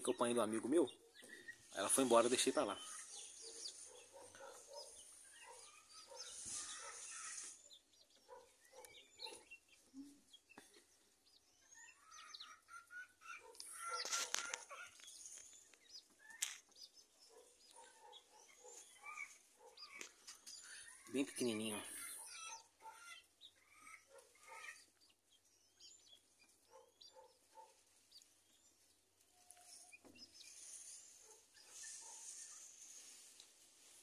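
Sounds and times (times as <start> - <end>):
chickens clucking and cheeping: 0.0 - 34.0.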